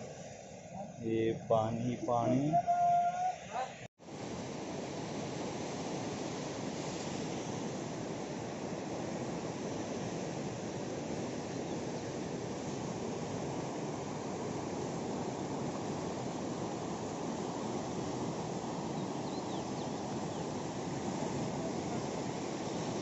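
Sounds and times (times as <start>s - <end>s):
river rushing: 4.1s - 23.0s.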